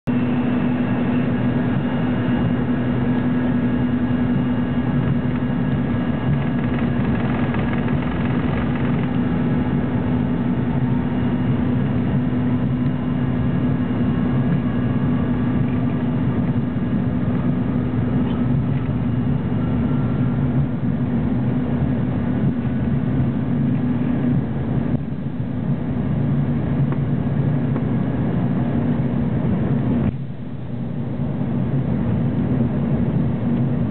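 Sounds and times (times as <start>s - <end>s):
aircraft engines droning: 0.0s - 33.9s
high engine whines: 0.0s - 33.9s.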